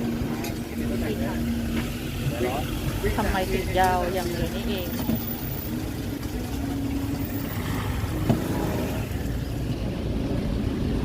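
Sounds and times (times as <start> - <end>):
low rumble of vehicle engines: 0.0 - 11.0.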